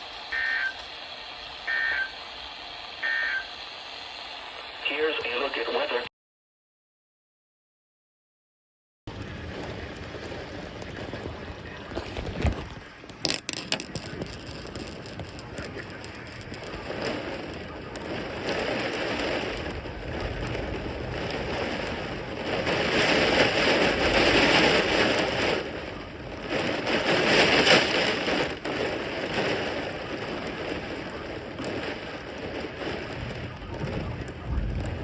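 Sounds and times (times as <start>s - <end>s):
heavy rain pouring: 0.0s - 6.0s, 9.1s - 35.0s.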